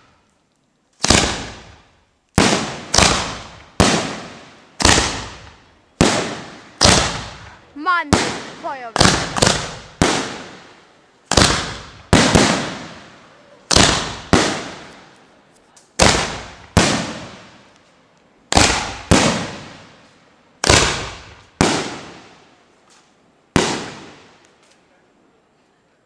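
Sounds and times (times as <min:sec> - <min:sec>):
fireworks bangs with echo: 0:01.0 - 0:15.2, 0:16.0 - 0:17.8, 0:18.5 - 0:22.6, 0:23.5 - 0:24.4.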